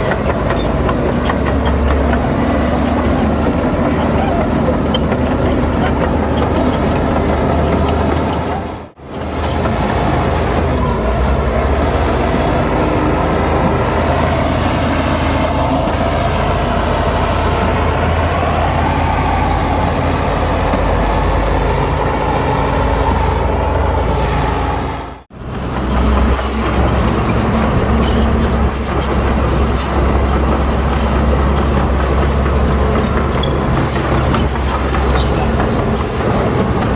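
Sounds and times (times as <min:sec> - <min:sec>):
heavy machinery diesel engines: 0:00.0 - 0:36.9.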